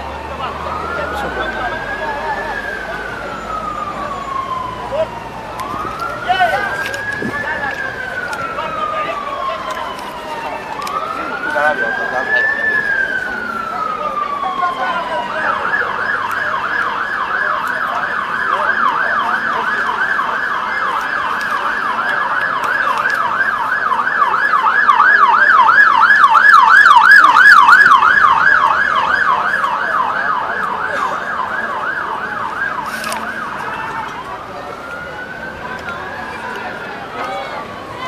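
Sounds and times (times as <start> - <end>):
emergency siren yelping: 0.0 - 38.0.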